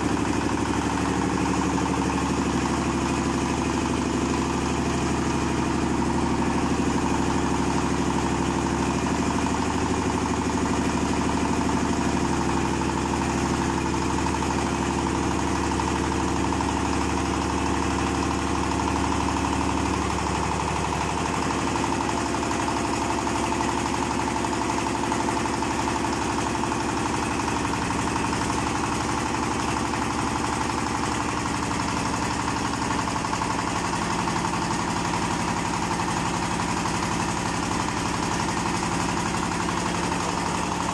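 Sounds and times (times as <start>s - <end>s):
oil expeller machine humming: 0.0s - 40.9s.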